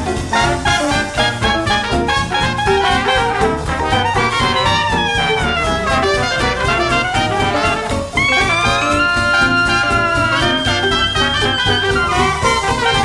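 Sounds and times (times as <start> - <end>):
brass-led jazz music: 0.0 - 13.0.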